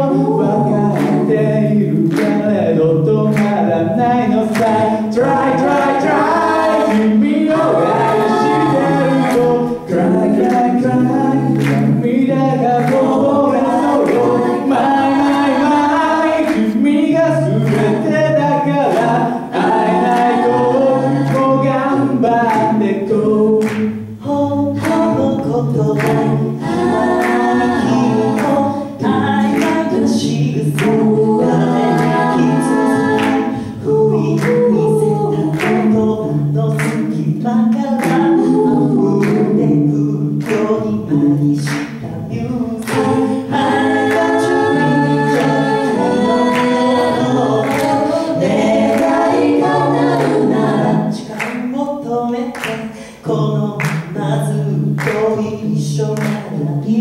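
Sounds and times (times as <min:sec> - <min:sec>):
a cappella group singing: 0:00.0 - 0:57.0
vocal percussion beat: 0:00.0 - 0:57.0.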